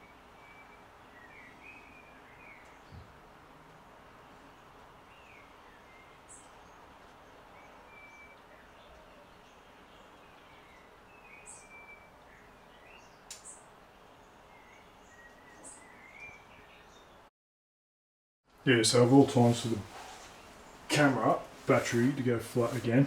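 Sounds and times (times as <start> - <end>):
steady background hiss: 0.0 - 17.3, 18.5 - 23.0.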